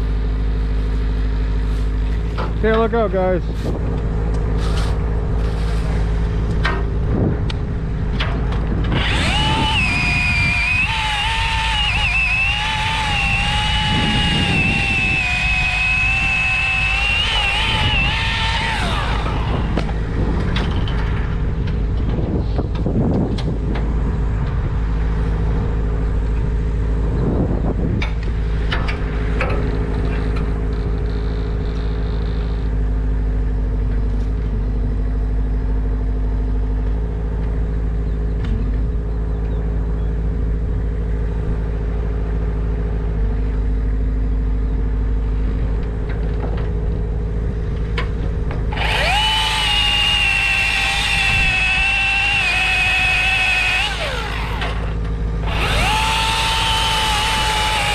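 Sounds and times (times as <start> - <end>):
heavy engine running: 0.0 - 57.9.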